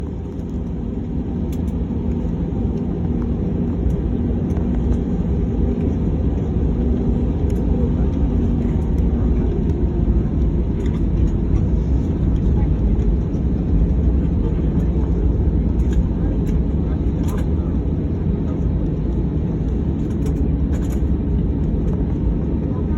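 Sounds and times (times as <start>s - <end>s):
airliner engines rumbling: 0.0s - 22.9s.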